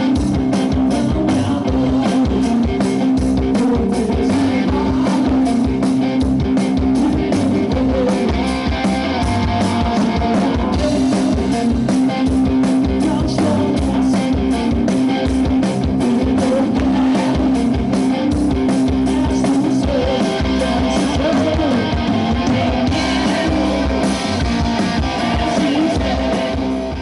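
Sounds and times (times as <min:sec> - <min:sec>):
drum kit beat: 0:00.0 - 0:27.0
electric guitars: 0:00.0 - 0:27.0.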